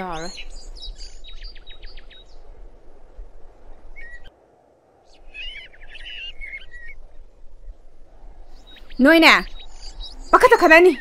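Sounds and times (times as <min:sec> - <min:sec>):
birds chirping: 0:00.0 - 0:11.0
low ambient hiss: 0:00.0 - 0:11.0.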